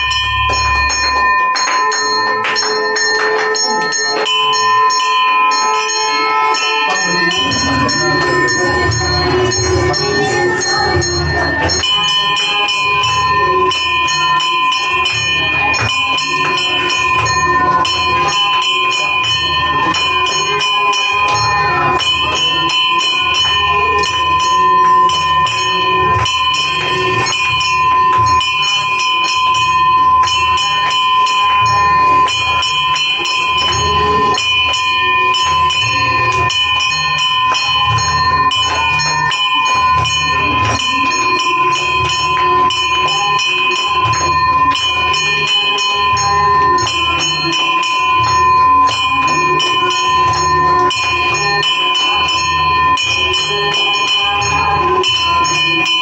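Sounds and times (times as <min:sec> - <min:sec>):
bells ringing: 0:00.0 - 0:56.0.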